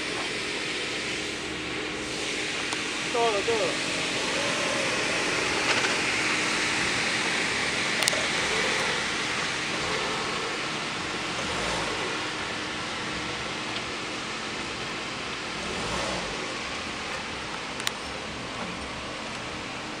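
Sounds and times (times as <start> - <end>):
car engine running at low speed: 0.0 - 20.0
steady noisy hiss: 0.0 - 20.0.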